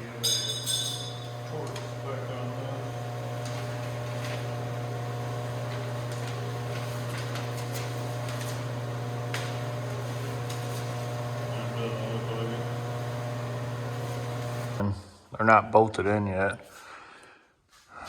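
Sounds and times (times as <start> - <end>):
low machine hum: 0.0 - 14.8.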